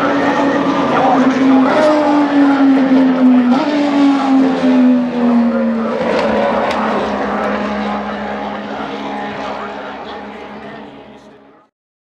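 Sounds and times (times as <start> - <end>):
race car engine slowing: 0.0 - 11.7.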